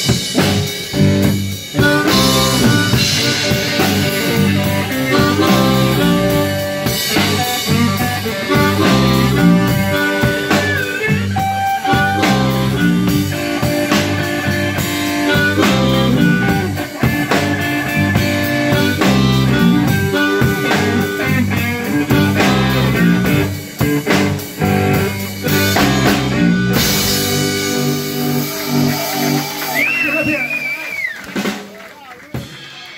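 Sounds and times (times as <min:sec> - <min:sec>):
live blues band playing: 0:00.0 - 0:32.9
amplified harmonica: 0:01.0 - 0:30.6.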